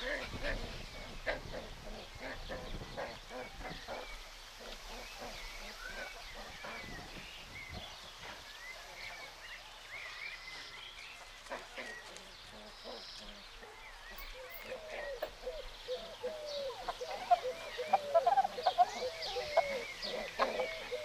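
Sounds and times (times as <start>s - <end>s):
small birds twittering: 0.0s - 21.0s.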